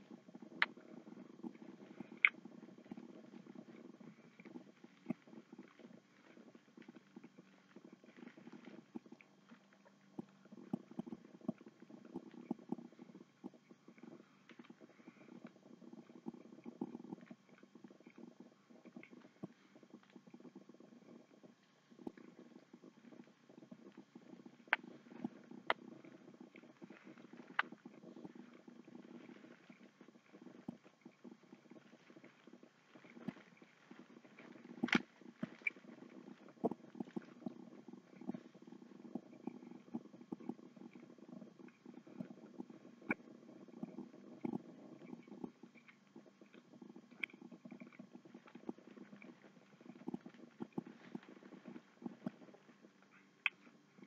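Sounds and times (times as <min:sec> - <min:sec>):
mouth clicks: 0:00.0 - 0:54.0.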